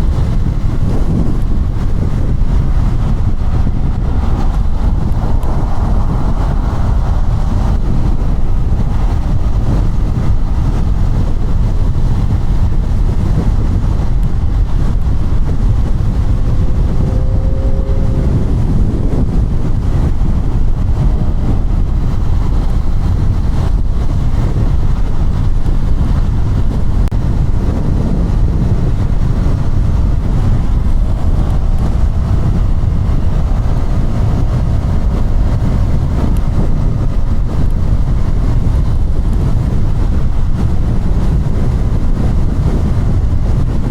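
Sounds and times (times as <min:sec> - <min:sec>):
motorcycle engine running: 0:00.0 - 0:43.9
wind rumble on microphone: 0:00.0 - 0:43.9.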